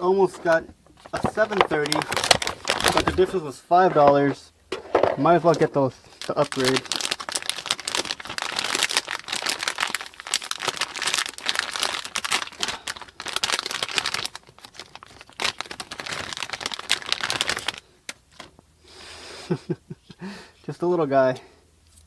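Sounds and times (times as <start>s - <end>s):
plastic packaging crinkling: 0.1s - 18.5s.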